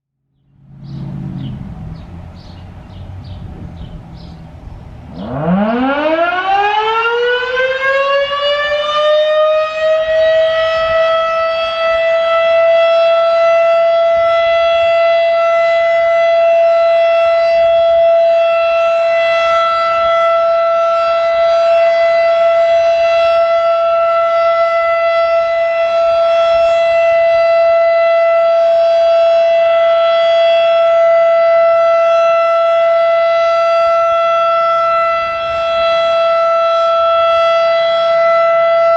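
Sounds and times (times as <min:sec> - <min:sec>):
warning siren winding up: 0:05.1 - 0:38.9.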